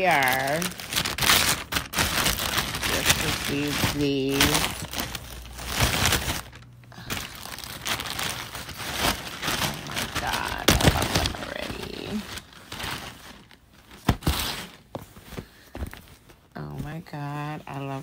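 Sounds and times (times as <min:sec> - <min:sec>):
plastic packaging rustling and crinkling: 0:00.0 - 0:18.0.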